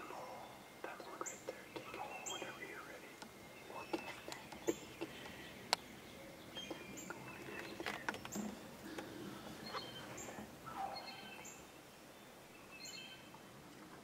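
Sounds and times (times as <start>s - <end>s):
bird chirps and calls: 0.0s - 13.4s
low outdoor ambience: 0.0s - 14.0s.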